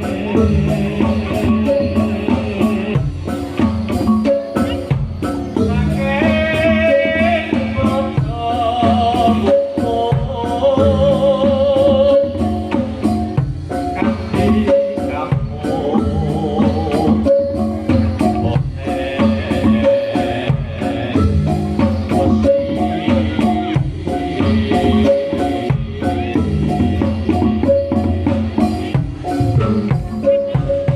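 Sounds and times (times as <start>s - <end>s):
drumming and struck percussion: 0.0s - 30.9s
wavering vibrato melody: 0.0s - 30.9s.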